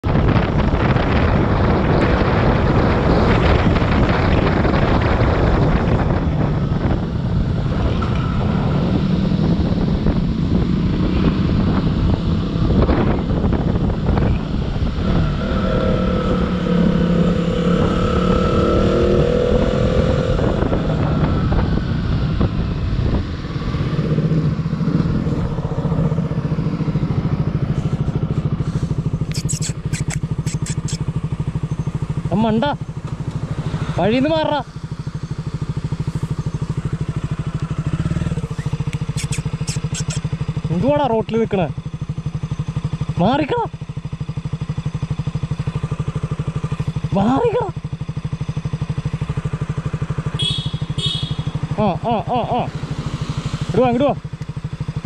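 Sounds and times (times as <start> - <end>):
motorcycle engine revving: 0.0 - 55.0
wind: 0.0 - 55.0.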